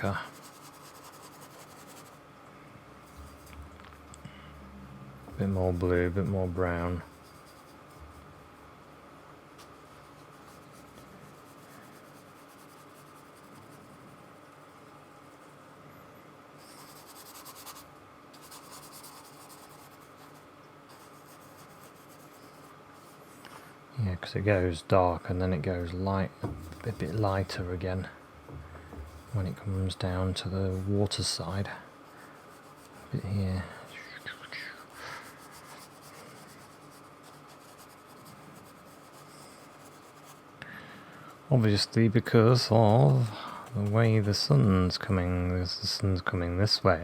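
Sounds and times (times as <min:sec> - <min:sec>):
paintbrush strokes: 0:00.0 - 0:02.2, 0:03.0 - 0:04.1, 0:05.2 - 0:08.7, 0:09.6 - 0:15.6, 0:16.6 - 0:23.7, 0:25.3 - 0:28.2, 0:29.0 - 0:40.5, 0:41.4 - 0:44.8.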